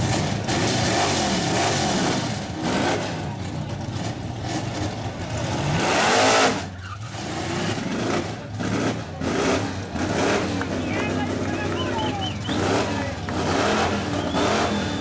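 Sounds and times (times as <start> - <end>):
drag racing car engines revving: 0.0 - 15.0.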